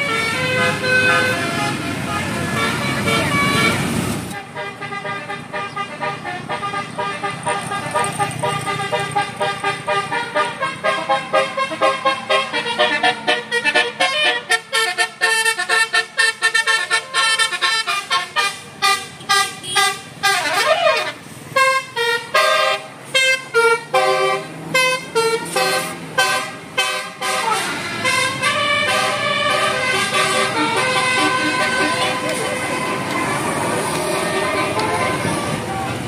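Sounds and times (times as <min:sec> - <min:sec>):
musical air horn tune: 0:00.0 - 0:35.9
bus engine hum: 0:00.0 - 0:36.0.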